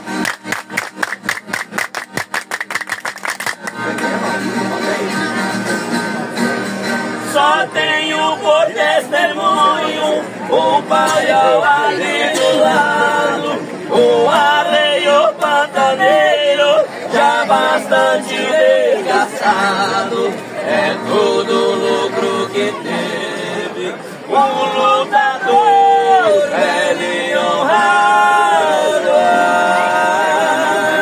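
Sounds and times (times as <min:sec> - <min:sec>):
men singing in harmony: 0:03.6 - 0:31.0.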